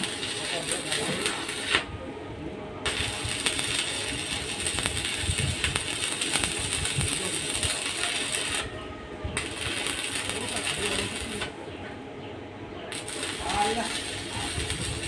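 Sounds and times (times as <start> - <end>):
steady hiss: 0.0 - 2.0, 2.9 - 8.7, 9.4 - 11.6, 12.9 - 15.0.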